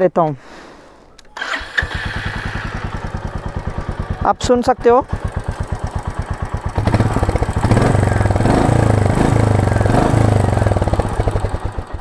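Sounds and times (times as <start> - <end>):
motorcycle engine idling and revving: 1.4 - 12.0.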